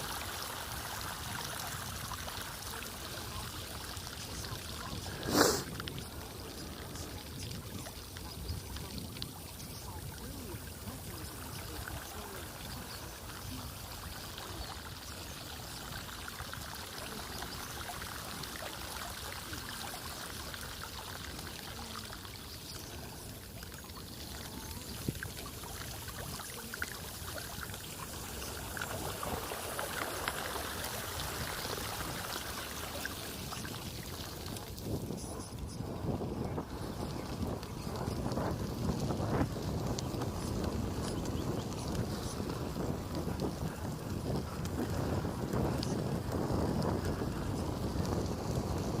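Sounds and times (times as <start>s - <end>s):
floodwater running and trickling: 0.0s - 49.0s.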